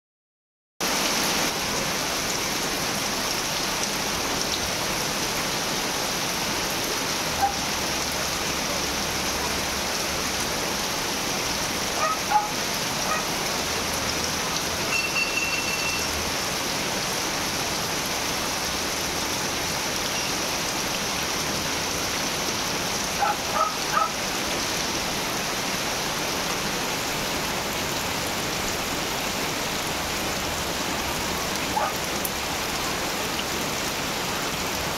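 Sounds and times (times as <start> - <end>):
heavy rain falling: 0.8 - 34.9.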